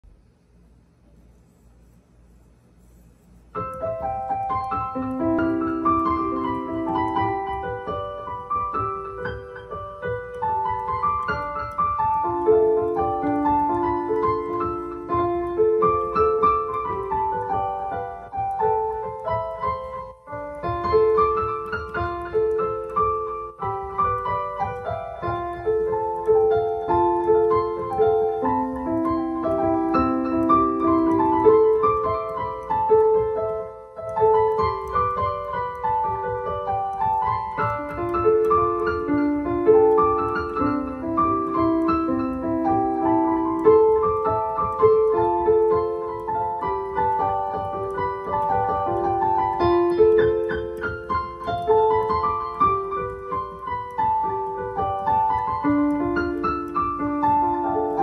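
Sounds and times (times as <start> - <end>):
digital piano melody: 2.3 - 58.0.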